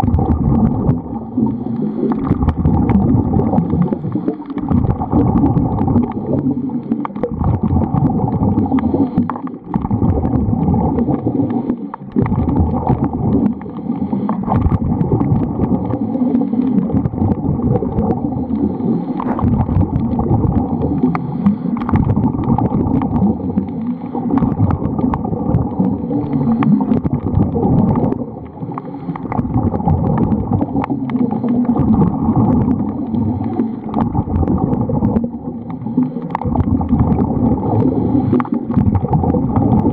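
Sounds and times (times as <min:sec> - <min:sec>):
muffled underwater rushing: 0:00.0 - 0:39.9.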